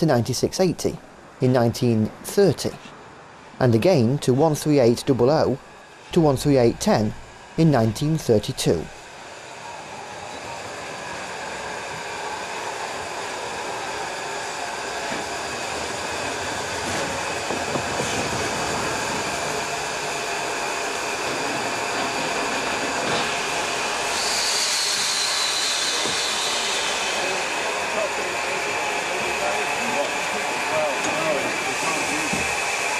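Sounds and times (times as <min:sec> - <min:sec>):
steam train running: 0:03.7 - 0:32.9
steam hiss: 0:05.7 - 0:32.9.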